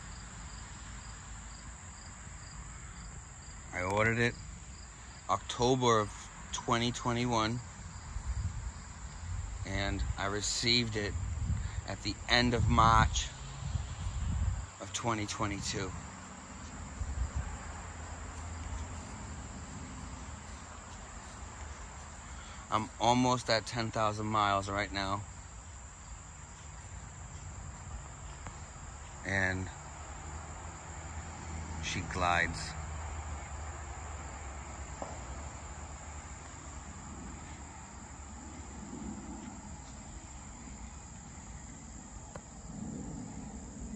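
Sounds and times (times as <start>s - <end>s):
crickets chirring: 0.0s - 43.9s
insects trilling: 0.0s - 43.9s.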